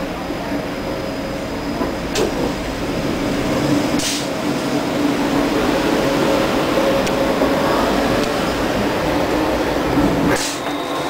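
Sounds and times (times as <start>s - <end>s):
electric tram running hum: 0.0s - 11.0s.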